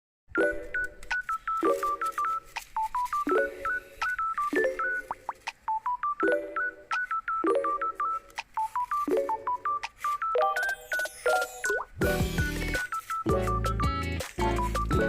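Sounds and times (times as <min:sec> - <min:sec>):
bright beeping tune: 0:00.4 - 0:15.0.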